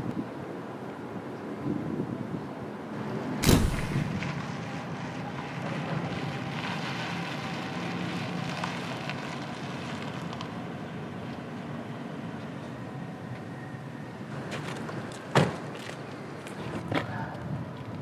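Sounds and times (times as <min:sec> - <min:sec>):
distant traffic hum: 0:00.0 - 0:18.0
wind: 0:00.0 - 0:18.0.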